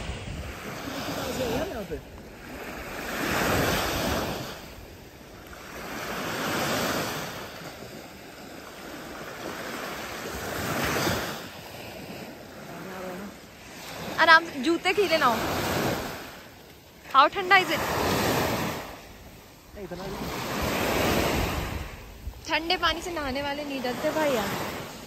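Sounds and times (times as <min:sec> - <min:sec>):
waves washing onto beach: 0:00.0 - 0:25.0.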